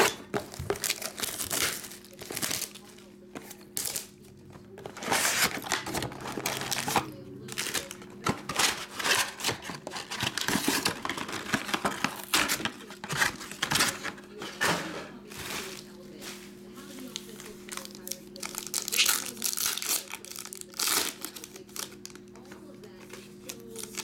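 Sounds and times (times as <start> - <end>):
plastic and foil packs crinkling: 0.0 - 24.0.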